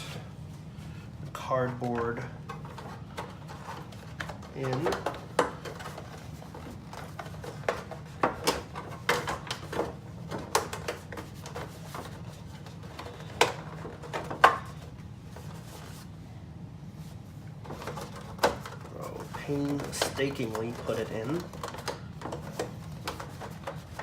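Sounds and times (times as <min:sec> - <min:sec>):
steady low hum: 0:00.0 - 0:24.0
cardboard and plastic clicks and scrapes: 0:01.9 - 0:16.0, 0:17.6 - 0:24.0.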